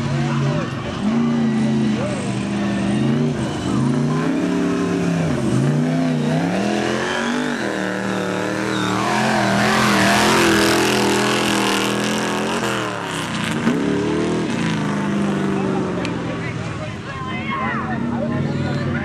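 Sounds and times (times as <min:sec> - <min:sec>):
truck engine revving hard: 0:00.0 - 0:16.4.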